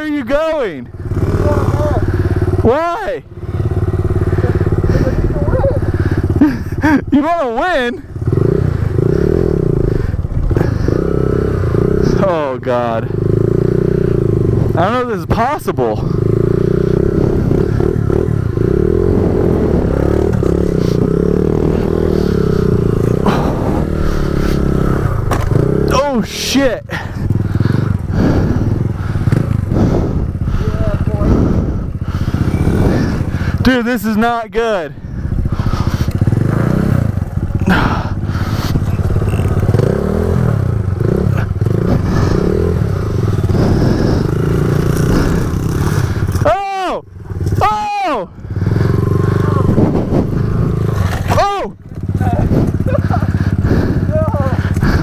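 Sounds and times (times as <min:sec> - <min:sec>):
small motorbike engine revving: 0:00.9 - 0:07.1, 0:07.7 - 0:34.0, 0:35.0 - 0:46.5, 0:48.4 - 0:55.0.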